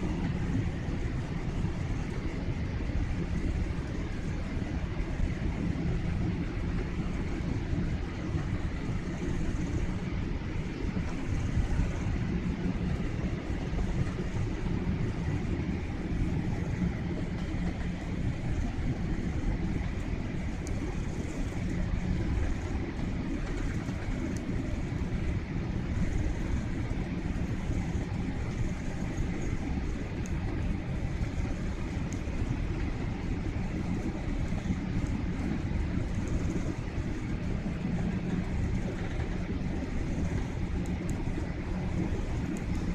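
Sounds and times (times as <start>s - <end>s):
airliner engines rumbling: 0.0s - 42.9s
faint steady whine: 0.0s - 42.9s.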